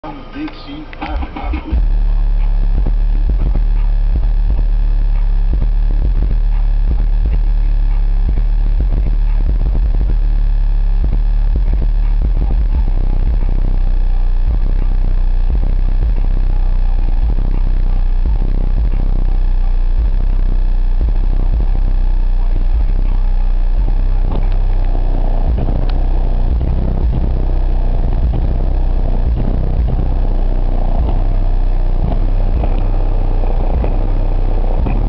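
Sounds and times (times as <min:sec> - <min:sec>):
deep bass from subwoofer: 0:00.0 - 0:35.0
constant crackling: 0:00.4 - 0:35.0.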